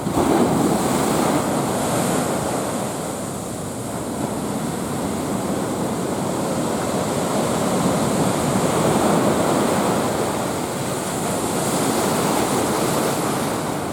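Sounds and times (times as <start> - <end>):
waves breaking: 0.0 - 13.9.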